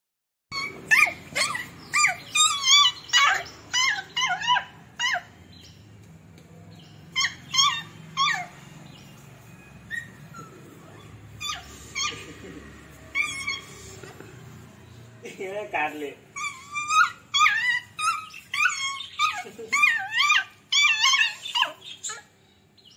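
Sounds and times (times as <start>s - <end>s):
puppies yelping and whining: 0.5s - 5.8s, 6.7s - 15.0s, 16.3s - 22.9s.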